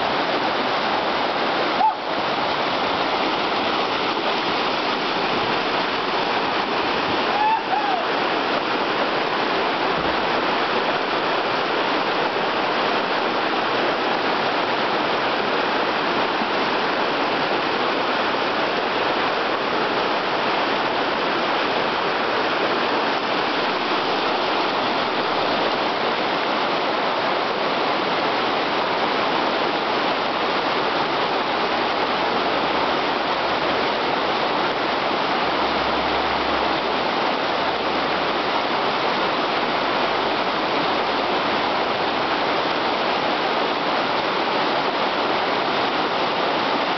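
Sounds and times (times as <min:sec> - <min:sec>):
water rushing over stones: 0:00.0 - 0:46.9.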